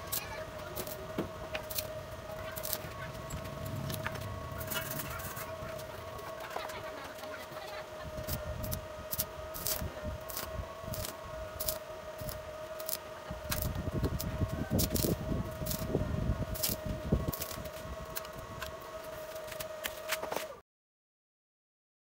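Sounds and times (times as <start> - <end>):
high-pitched hum: 0.0 - 20.6.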